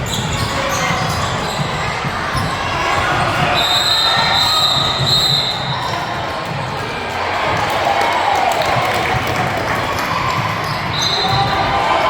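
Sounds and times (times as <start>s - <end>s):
basketball bouncing on gym floor: 0.0s - 6.9s, 8.6s - 12.0s
crowd murmur in large hall: 0.0s - 12.0s.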